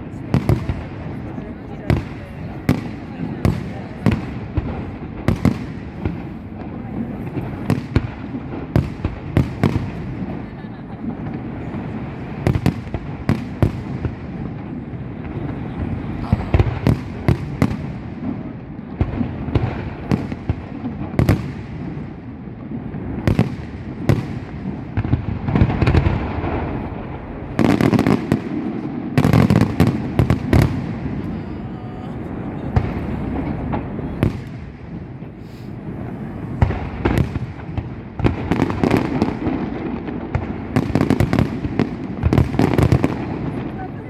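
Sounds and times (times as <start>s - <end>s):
fireworks bangs: 0.0s - 44.0s.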